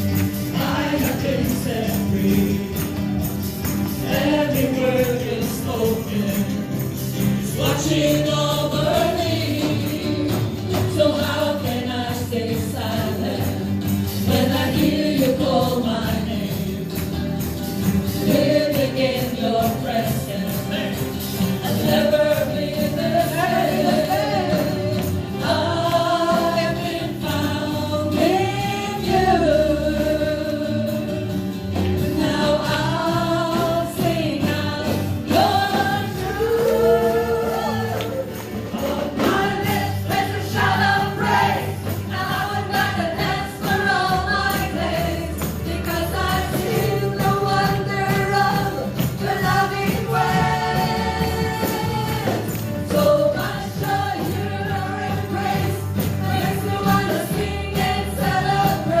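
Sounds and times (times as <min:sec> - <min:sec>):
group singing gospel song: 0:00.0 - 0:59.0
live band playing: 0:00.0 - 0:59.0
tambourine-like percussion: 0:00.0 - 0:59.0.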